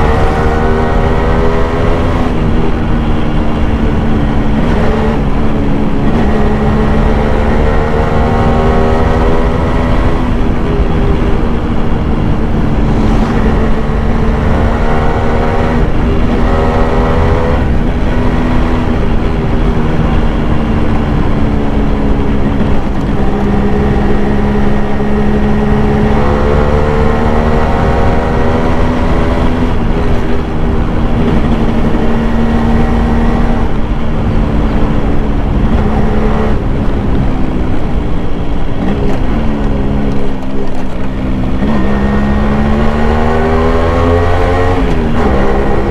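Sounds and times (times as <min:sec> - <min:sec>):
two-stroke motorcycle engine accelerating: 0:00.0 - 0:45.9.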